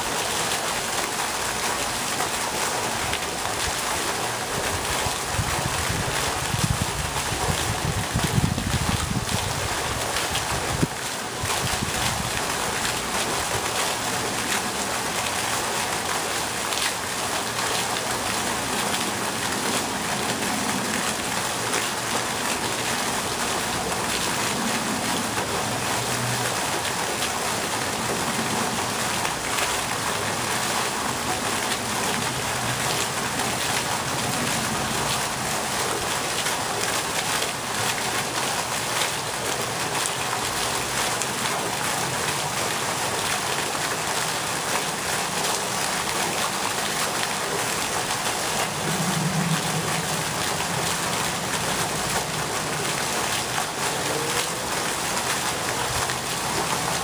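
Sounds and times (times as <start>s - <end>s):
fountain water splashing: 0.0s - 57.0s.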